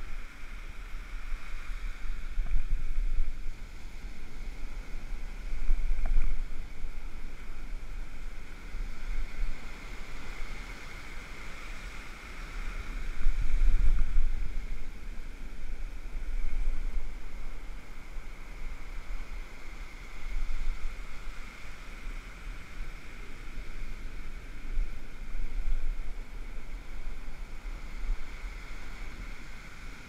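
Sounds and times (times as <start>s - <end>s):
surf washing up beach: 0.0s - 30.0s
wind buffeting microphone: 0.0s - 30.0s.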